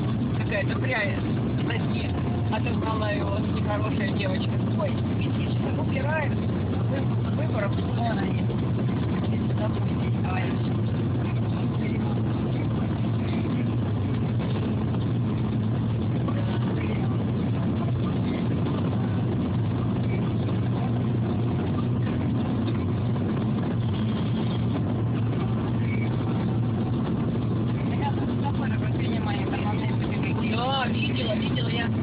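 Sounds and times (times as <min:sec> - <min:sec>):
car engine hum: 0:00.0 - 0:32.0
tyre road noise: 0:00.0 - 0:32.0.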